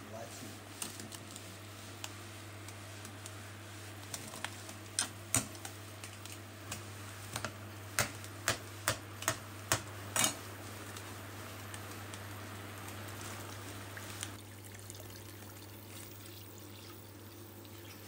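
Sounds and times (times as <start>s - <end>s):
low hum from hob: 0.0s - 18.0s
water boiling in a pot: 0.0s - 18.0s.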